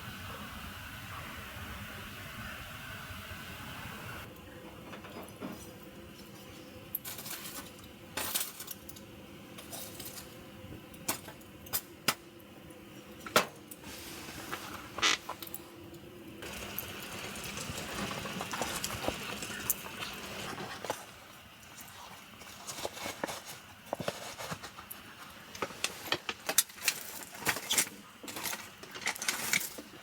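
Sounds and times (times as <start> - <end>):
steady hiss: 0.0 - 4.6, 5.4 - 28.7.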